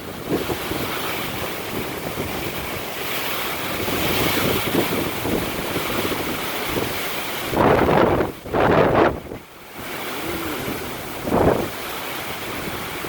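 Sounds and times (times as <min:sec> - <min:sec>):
strong gusty wind: 0:00.0 - 0:13.0
wind buffeting microphone: 0:00.0 - 0:13.0.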